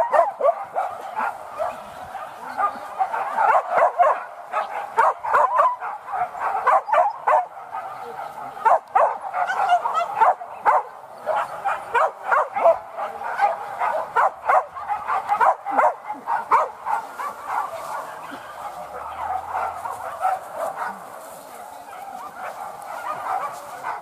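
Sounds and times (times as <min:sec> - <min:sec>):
dogs barking and yelping: 0:00.0 - 0:24.0.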